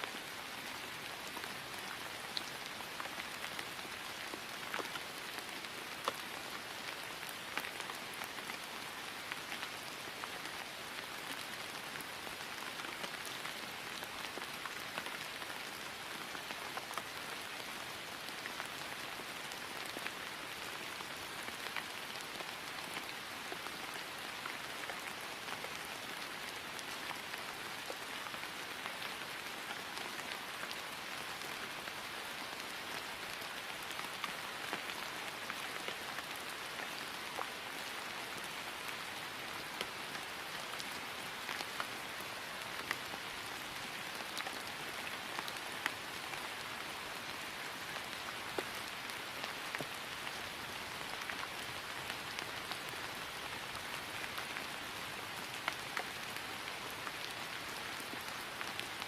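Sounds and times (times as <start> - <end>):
rain falling on grass: 0.0 - 59.0.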